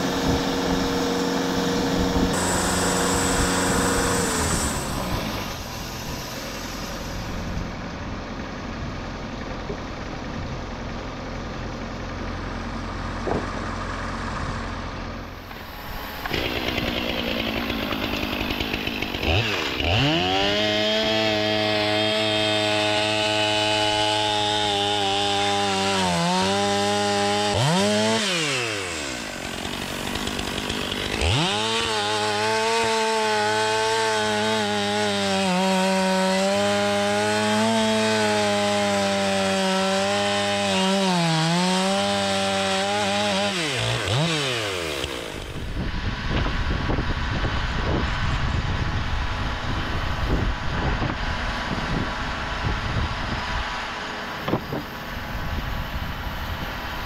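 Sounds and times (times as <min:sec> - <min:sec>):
chainsaw cutting wood: 0:00.0 - 0:07.8, 0:11.4 - 0:57.0.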